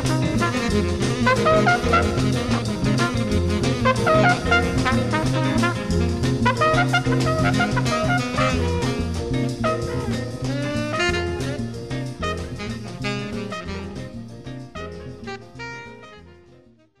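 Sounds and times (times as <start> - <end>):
instrumental jazz music: 0.0 - 17.0.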